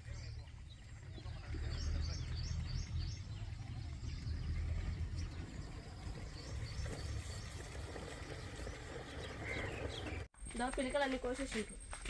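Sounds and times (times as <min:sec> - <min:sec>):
low uneven rumble: 0:00.0 - 0:10.3.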